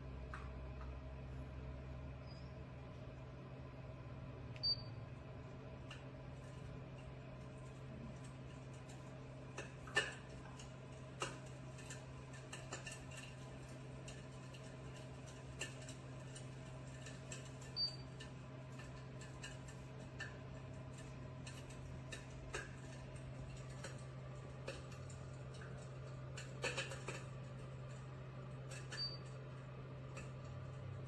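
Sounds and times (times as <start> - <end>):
simulated fire crackling: 5.2 - 31.0.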